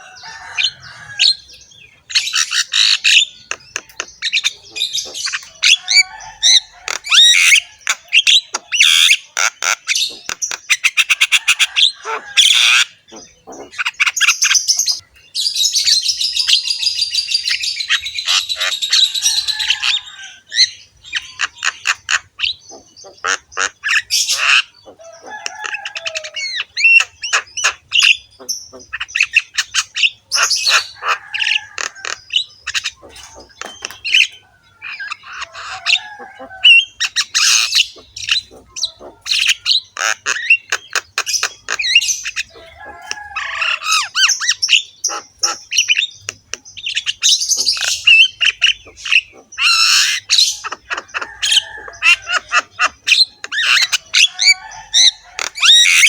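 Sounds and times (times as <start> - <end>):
myna bird singing: 0.0 - 56.0.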